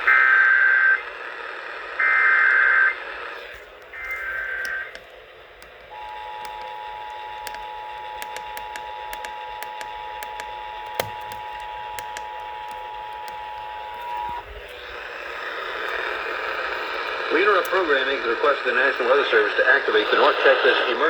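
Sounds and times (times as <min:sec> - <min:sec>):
broadcast hiss: 0:00.0 - 0:21.0
static clicks and pops: 0:01.4 - 0:20.9.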